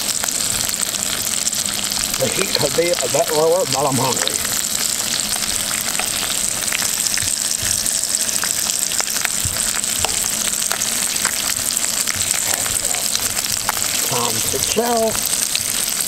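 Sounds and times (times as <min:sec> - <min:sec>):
fish sizzling in butter in a pan: 0:00.0 - 0:16.0.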